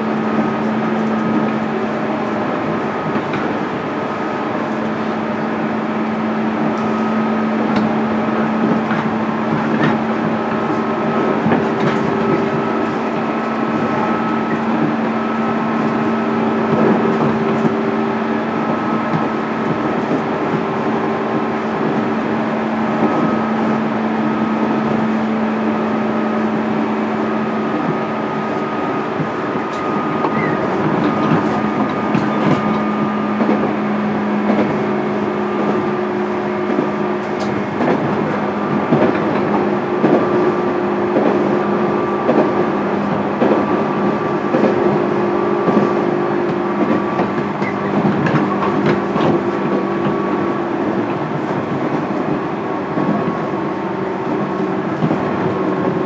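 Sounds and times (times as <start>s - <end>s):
electric train motor whine: 0.0s - 56.0s
wheel and track noise: 0.0s - 56.0s.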